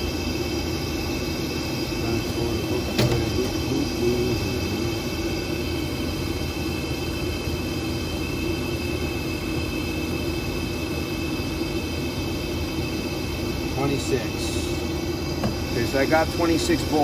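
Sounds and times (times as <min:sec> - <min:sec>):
hvac unit humming: 0:00.0 - 0:17.0.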